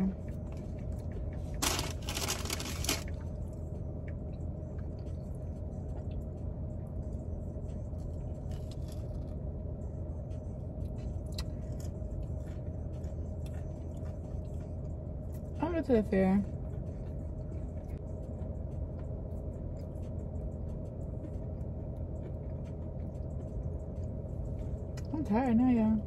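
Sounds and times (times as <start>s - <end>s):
car engine idling hum: 0.0s - 26.0s.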